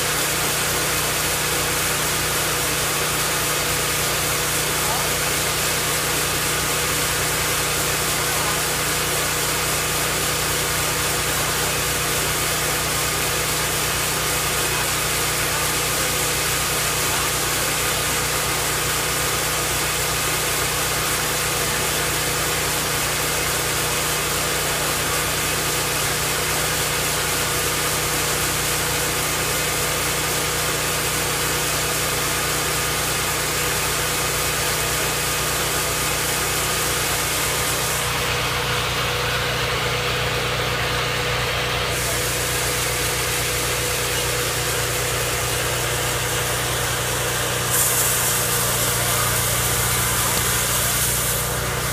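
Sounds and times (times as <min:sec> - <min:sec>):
firewood processor engine droning: 0:00.0 - 0:51.9.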